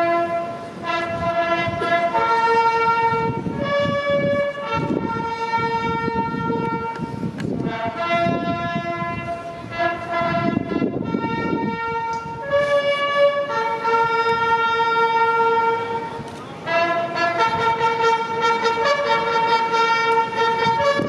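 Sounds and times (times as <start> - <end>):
bugles playing long brass notes: 0.0 - 21.0.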